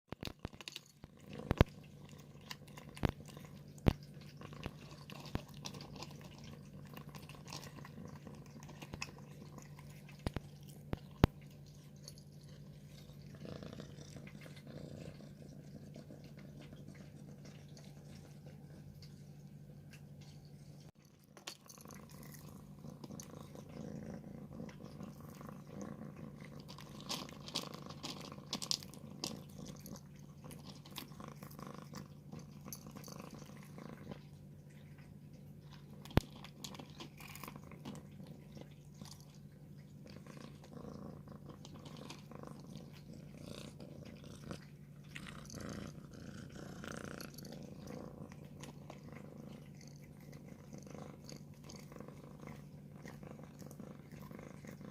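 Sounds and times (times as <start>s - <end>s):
cat purring: 0.1s - 54.9s
crunchy chewing: 0.1s - 54.9s.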